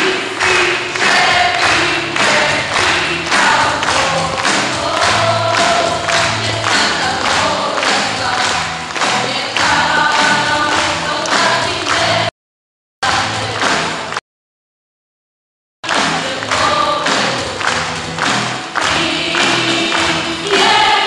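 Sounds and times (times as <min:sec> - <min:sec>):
group singing worship song: 0:00.0 - 0:12.3, 0:13.0 - 0:14.1, 0:15.9 - 0:21.0
musical accompaniment with steady beat: 0:00.0 - 0:12.3, 0:15.9 - 0:21.0.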